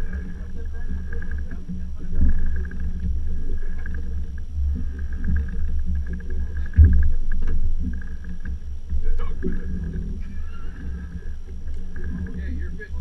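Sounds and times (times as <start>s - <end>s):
boat engine rumble: 0.0s - 13.0s
faint fluttering sound: 0.0s - 13.0s
low bump: 0.0s - 13.0s.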